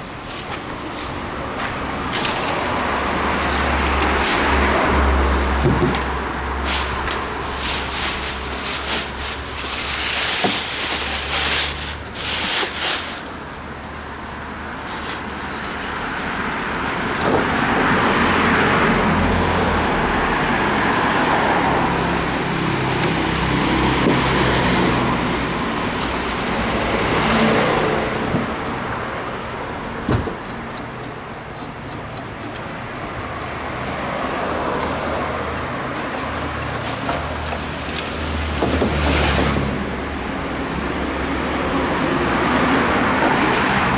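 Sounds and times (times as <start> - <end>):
traffic noise: 0.0 - 43.9.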